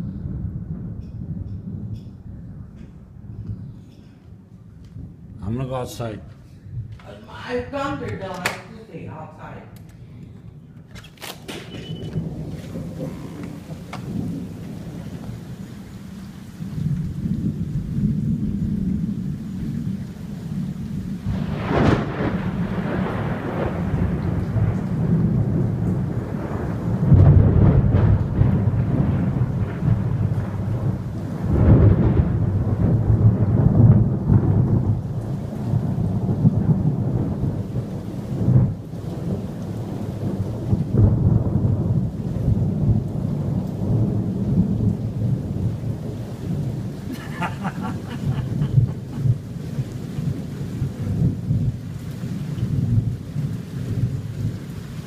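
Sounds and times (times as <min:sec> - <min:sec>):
sharp thunder cracks: 0:00.0 - 0:03.7, 0:10.5 - 0:55.0
steady rain: 0:00.0 - 0:55.0
thunder rumbling: 0:00.0 - 0:55.0.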